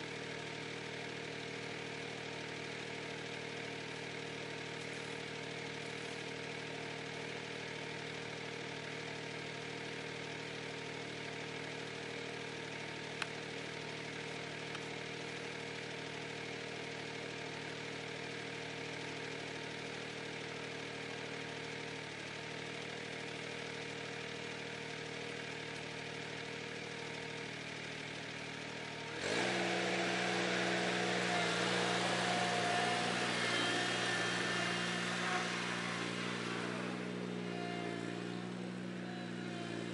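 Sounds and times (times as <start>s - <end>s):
tractor engine idling and revving: 0.0s - 39.9s.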